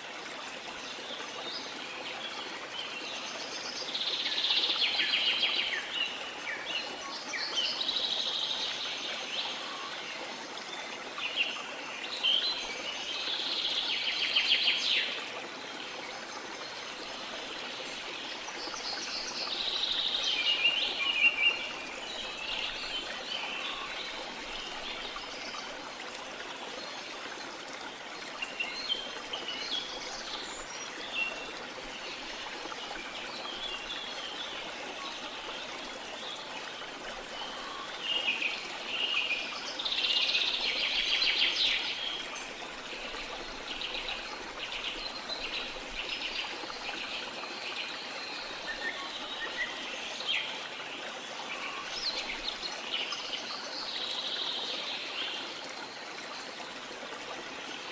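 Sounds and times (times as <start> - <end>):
running water: 0.0 - 57.9.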